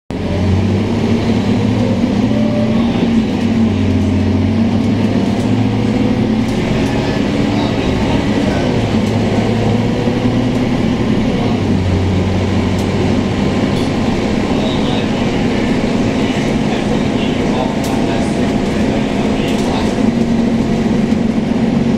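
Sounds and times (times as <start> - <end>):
bus diesel engine drone: 0.1 - 21.9
road noise: 0.1 - 21.9.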